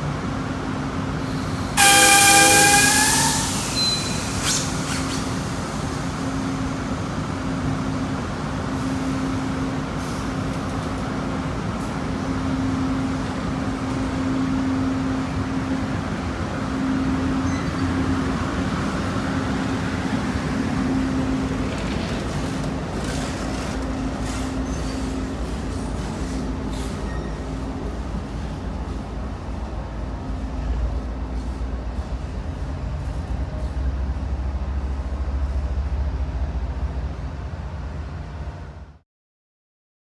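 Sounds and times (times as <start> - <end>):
diesel locomotive rumble: 0.0 - 39.0.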